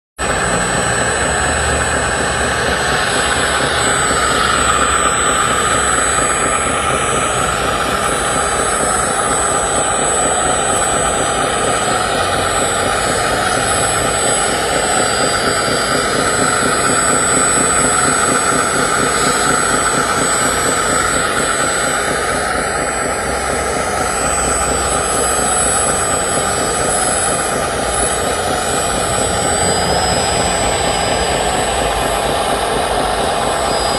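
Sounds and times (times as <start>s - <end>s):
model excavator motor whine: 0.2s - 33.9s.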